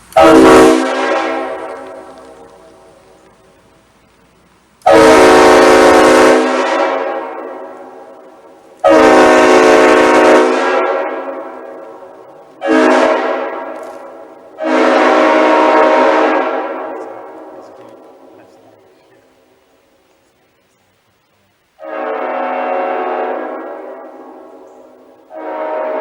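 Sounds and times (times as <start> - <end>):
locomotive air horn blasts: 0.1 - 3.4, 4.8 - 18.4, 21.8 - 26.0.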